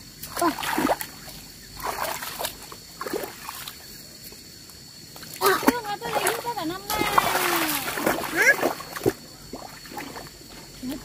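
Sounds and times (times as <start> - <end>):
water sloshing and splashing: 0.0 - 4.5, 5.1 - 11.0.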